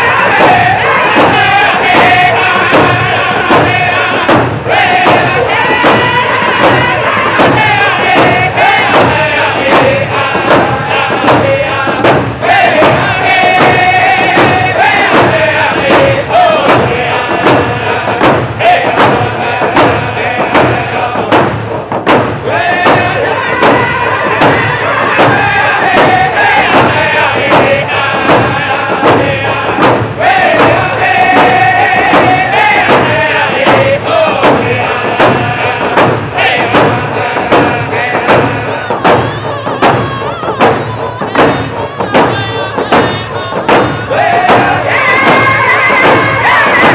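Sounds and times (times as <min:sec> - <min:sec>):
hand drums beating: 0:00.0 - 0:46.9
men singing in unison: 0:00.0 - 0:46.9.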